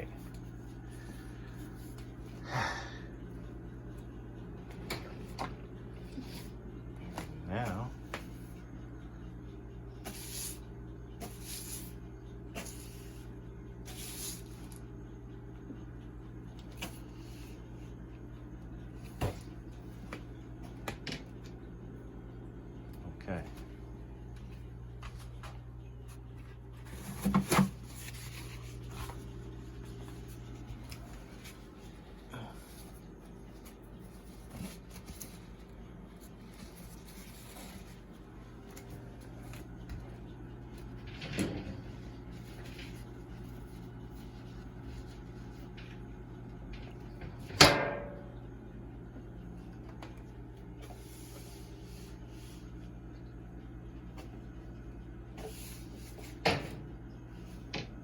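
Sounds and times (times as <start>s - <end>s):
refrigerator low hum: 0.0s - 58.0s.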